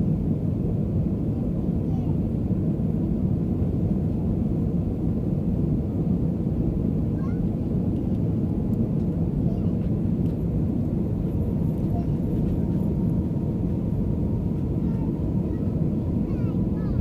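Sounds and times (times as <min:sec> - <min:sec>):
jet cabin engine rumble: 0:00.0 - 0:17.0.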